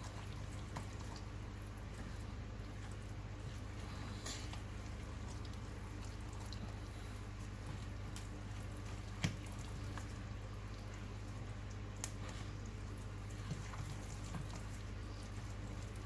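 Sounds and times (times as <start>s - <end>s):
batter being stirred in a bowl: 0.0s - 16.0s
steady low hum: 0.0s - 16.0s.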